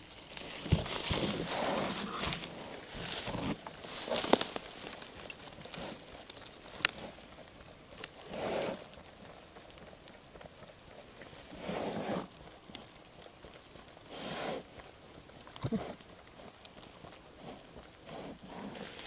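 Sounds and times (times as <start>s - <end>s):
rustling in dry leaves: 0.0s - 19.0s
bear snuffling: 0.3s - 19.0s.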